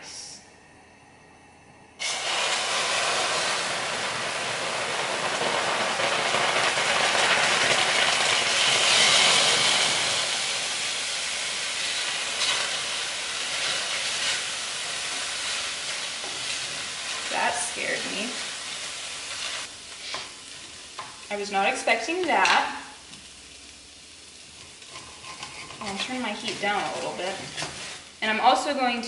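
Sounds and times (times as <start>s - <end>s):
water hissing into steam in a pan: 2.0s - 28.6s.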